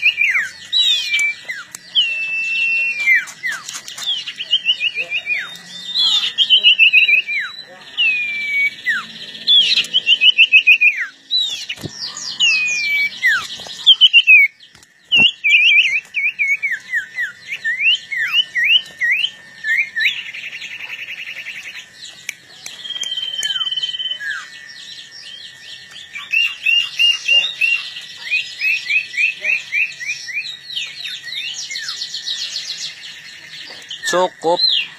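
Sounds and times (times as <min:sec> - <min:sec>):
songbirds singing loud whistles: 0:00.0 - 0:34.9.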